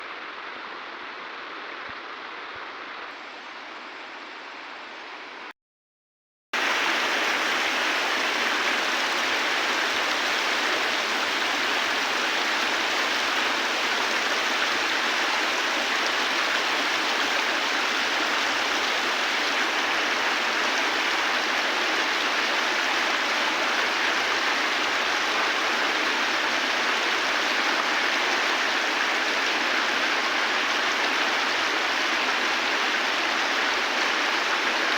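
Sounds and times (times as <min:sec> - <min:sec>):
river water rushing: 0:06.6 - 0:34.9.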